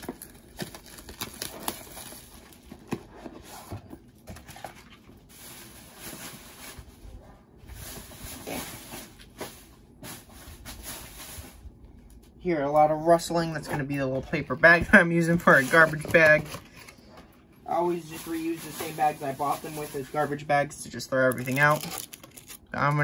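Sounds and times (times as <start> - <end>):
paper bag rustling: 0.0 - 11.8, 14.1 - 20.4, 21.2 - 23.0.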